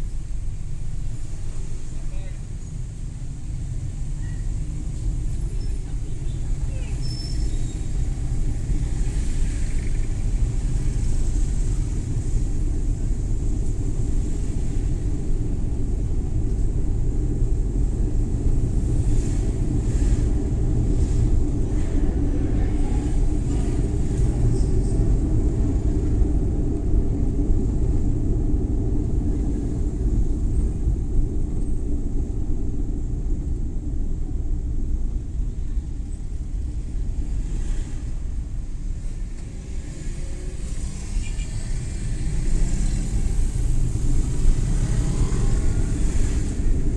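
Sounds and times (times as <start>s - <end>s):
road noise: 0.0s - 46.9s
van engine rumble: 0.0s - 46.9s.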